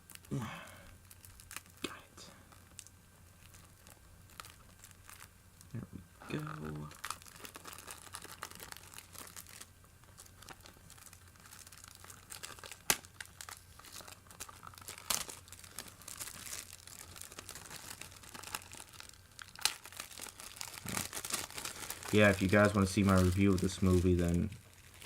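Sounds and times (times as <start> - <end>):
plastic wrap crinkling and tearing: 0.0 - 25.0.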